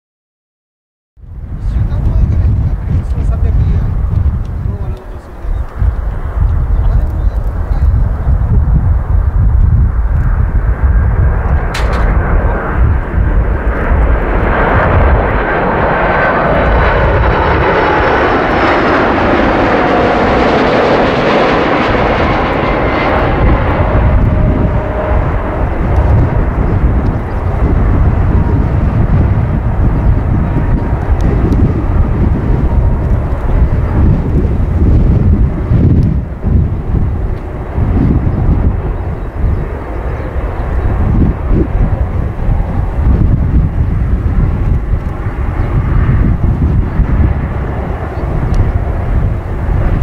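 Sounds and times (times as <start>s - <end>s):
jet engine rumble: 1.2s - 50.0s.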